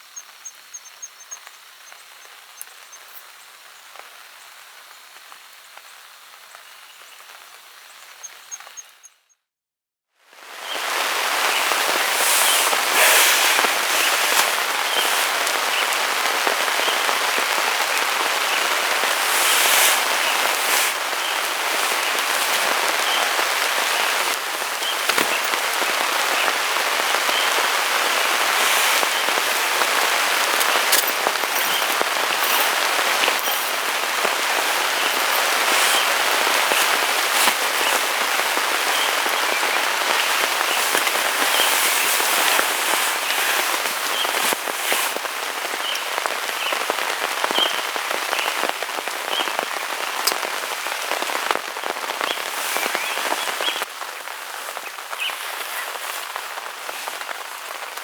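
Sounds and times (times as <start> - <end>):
heavy rain falling: 10.3 - 58.0.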